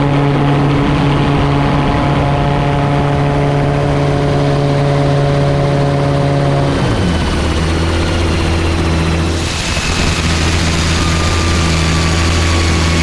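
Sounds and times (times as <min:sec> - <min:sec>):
engine idling drone: 0:00.0 - 0:13.0.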